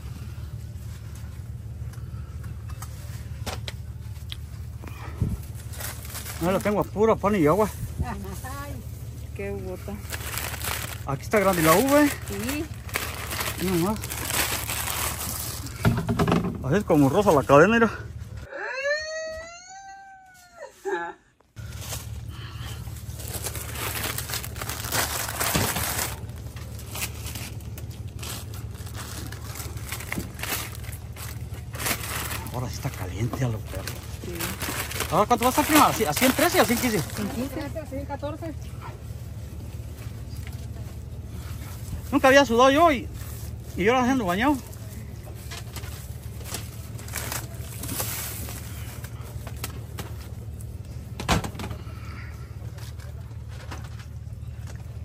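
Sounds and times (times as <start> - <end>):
low rumble: 0.0 - 18.5, 21.6 - 55.0
steady low hum: 0.0 - 18.6, 21.1 - 55.0
rustling and crinkling: 0.6 - 17.5, 21.6 - 51.2, 52.6 - 55.0.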